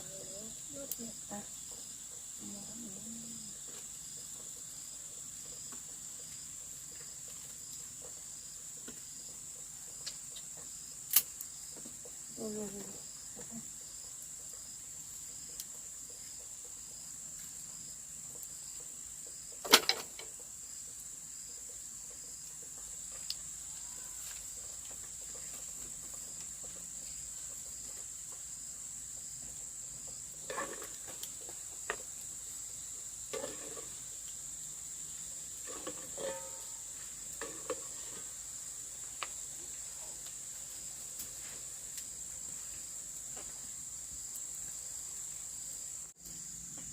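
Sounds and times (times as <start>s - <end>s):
insects trilling: 0.0s - 46.9s.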